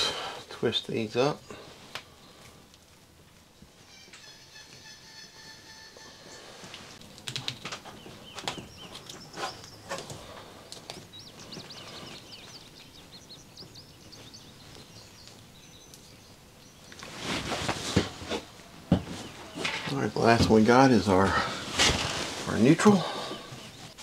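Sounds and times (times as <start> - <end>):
birds chirping: 3.4 - 24.0.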